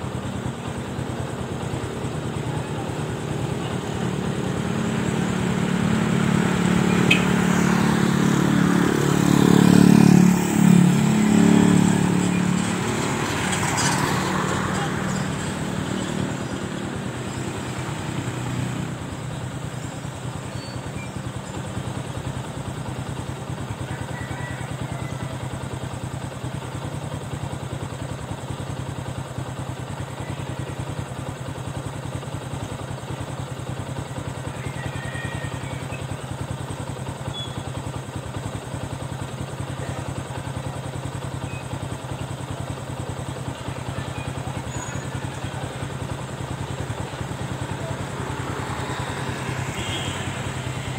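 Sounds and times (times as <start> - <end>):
small engine idling: 0.0 - 50.9.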